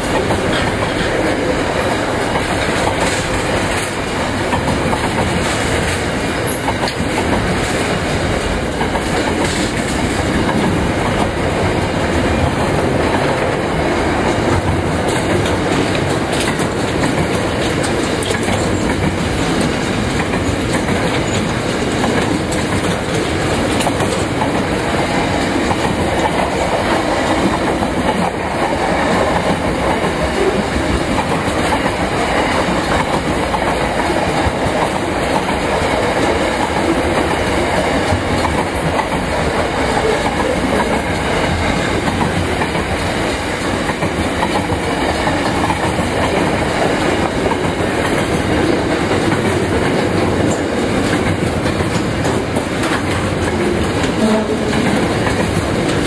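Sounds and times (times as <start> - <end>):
steel wheels rumbling on rail: 0.0 - 56.0
wheels clicking over track joints: 0.0 - 56.0.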